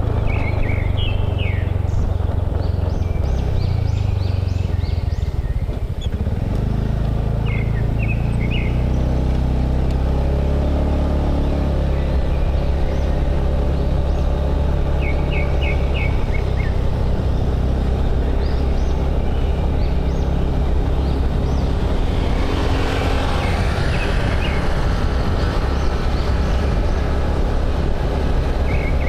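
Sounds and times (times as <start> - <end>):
motorbike engine cruising: 0.0 - 29.0
wind and road rush: 0.0 - 29.0.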